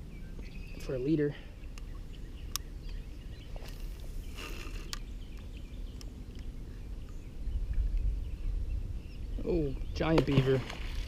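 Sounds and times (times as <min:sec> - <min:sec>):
wind rumble on microphone: 0:01.6 - 0:11.0.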